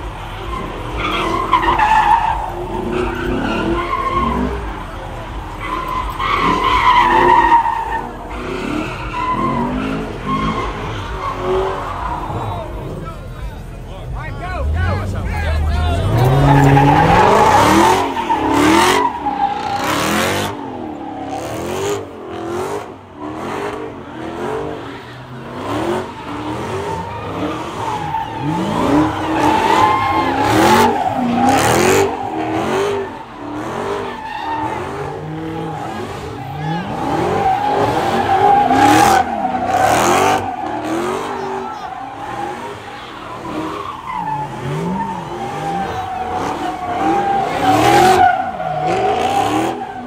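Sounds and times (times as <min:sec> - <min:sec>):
car engine revving: 0:00.0 - 0:50.0
tyres squealing: 0:00.4 - 0:13.3, 0:14.7 - 0:22.5, 0:23.2 - 0:50.0.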